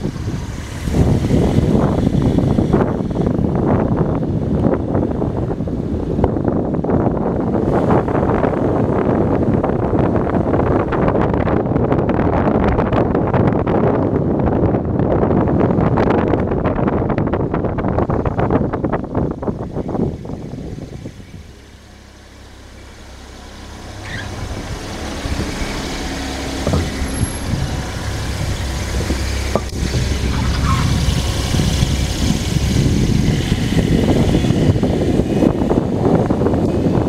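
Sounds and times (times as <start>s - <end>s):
tyre and road rumble: 0.0s - 37.0s
wind on microphone: 0.0s - 37.0s.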